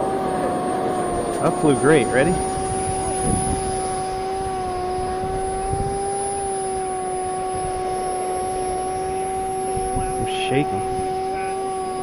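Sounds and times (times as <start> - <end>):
electric ducted fans whine: 0.0 - 12.0.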